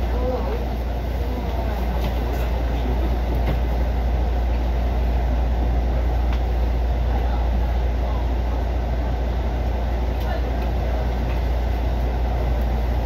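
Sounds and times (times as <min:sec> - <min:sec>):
train rumbling from inside: 0:00.0 - 0:13.0.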